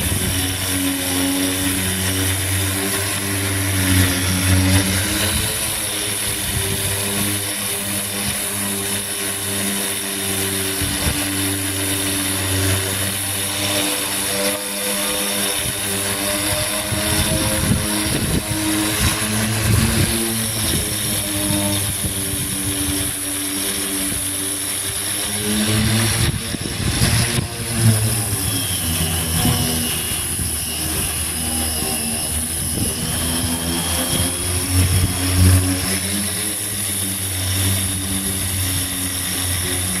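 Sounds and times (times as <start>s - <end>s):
high whine: 0.0s - 40.0s
motor running: 0.0s - 40.0s.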